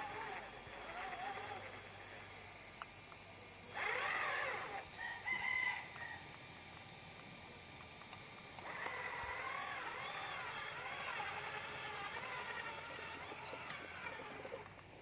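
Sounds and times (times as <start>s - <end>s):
model truck electric motor whining: 0.0s - 15.0s.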